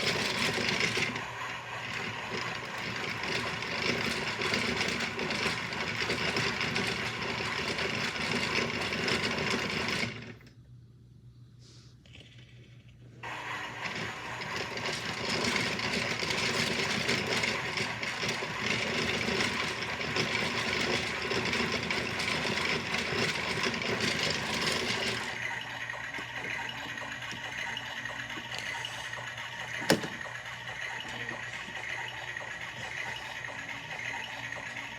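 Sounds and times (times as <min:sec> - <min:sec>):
toy washing machine whirring: 0:00.0 - 0:10.5, 0:12.0 - 0:34.9.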